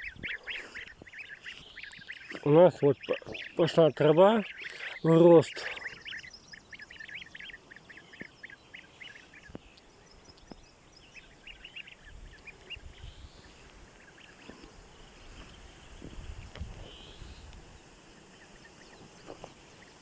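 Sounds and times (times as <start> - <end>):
goslings peeping: 0.0 - 20.0.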